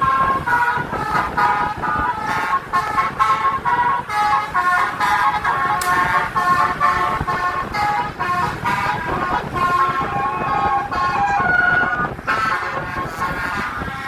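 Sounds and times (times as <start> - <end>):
multi-tone bus horn melody: 0.0 - 14.0.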